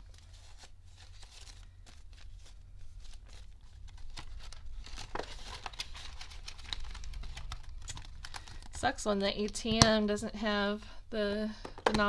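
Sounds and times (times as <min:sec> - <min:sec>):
banknotes rustling and crinkling: 0:00.0 - 0:10.1.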